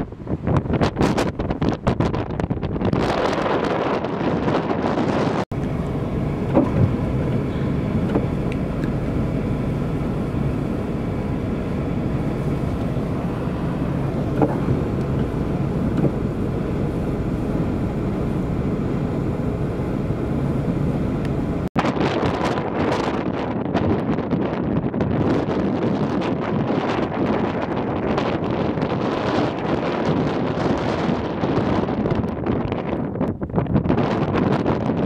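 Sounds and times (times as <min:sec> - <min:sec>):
strong blizzard wind: 0:00.0 - 0:35.0.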